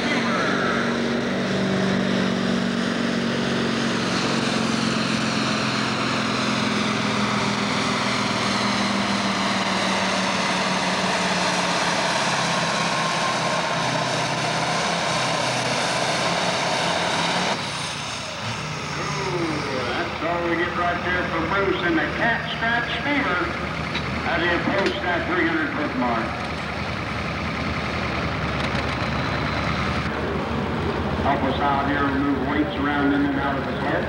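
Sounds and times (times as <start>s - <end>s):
tractor diesel engine running hard: 0.0s - 34.0s.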